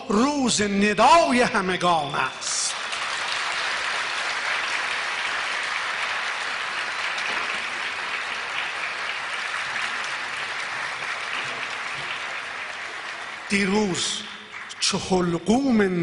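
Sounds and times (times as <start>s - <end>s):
audience applauding: 1.8s - 16.0s.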